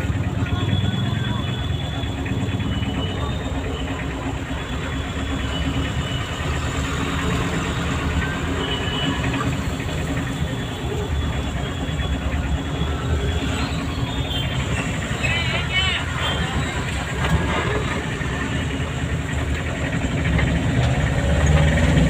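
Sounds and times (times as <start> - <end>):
car engine running: 0.0 - 22.0
road noise: 0.0 - 22.0.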